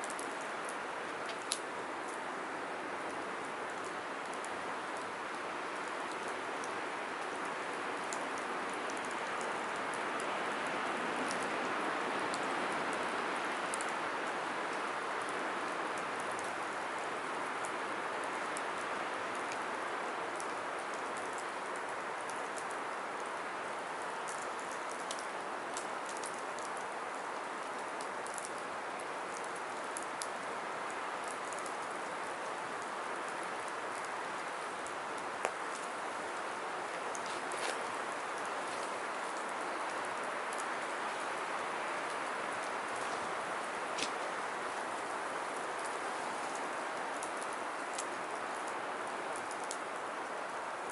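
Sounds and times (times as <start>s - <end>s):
firewood crackles and pops: 0.0s - 50.9s.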